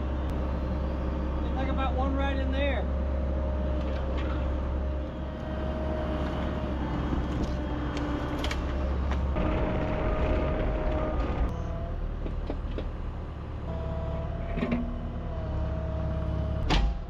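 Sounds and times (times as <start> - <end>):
excavator diesel engine rumble: 0.0 - 17.0.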